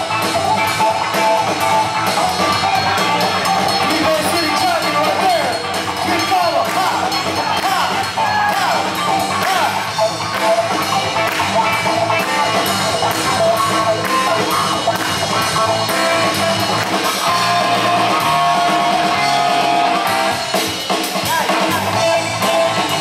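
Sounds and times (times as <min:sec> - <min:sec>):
guitar: 0:00.0 - 0:23.0
loud music with drum beat: 0:00.0 - 0:23.0.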